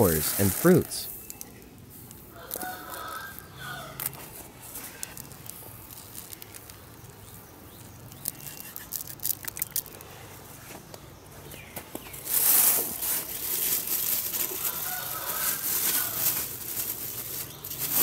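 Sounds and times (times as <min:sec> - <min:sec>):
granules ticking onto soil: 0:00.0 - 0:10.2, 0:10.9 - 0:18.0.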